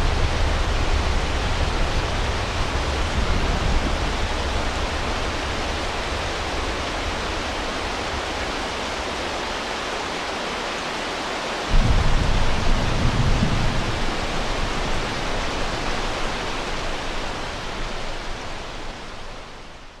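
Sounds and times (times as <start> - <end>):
low rumble of thunder: 0.0 - 9.3, 11.7 - 19.6
heavy rain hissing: 0.0 - 20.0.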